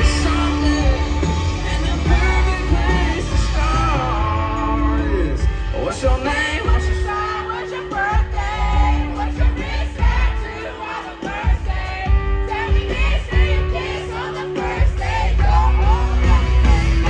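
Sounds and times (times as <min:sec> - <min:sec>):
live band playing country-pop: 0:00.0 - 0:17.0
person singing: 0:00.0 - 0:17.0.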